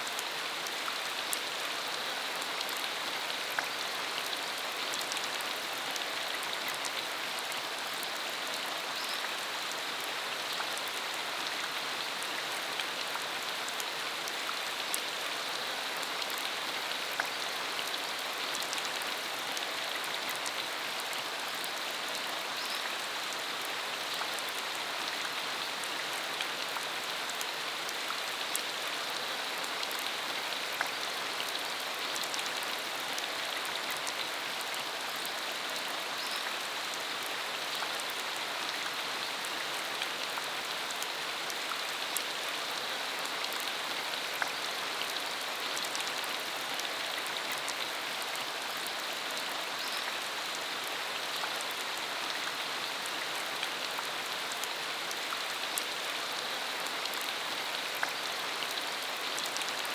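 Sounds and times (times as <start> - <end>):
rain on a dirt road: 0.0 - 59.9.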